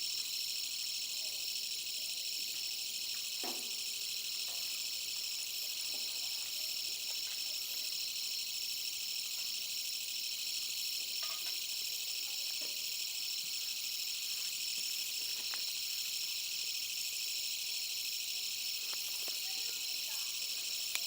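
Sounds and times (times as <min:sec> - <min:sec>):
chorus of crickets: 0:00.0 - 0:21.0.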